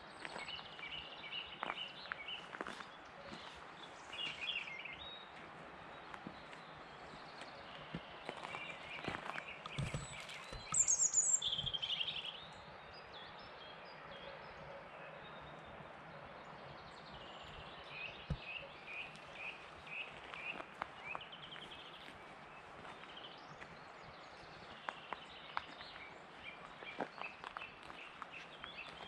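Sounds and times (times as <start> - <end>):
birds singing: 0.0 - 29.0.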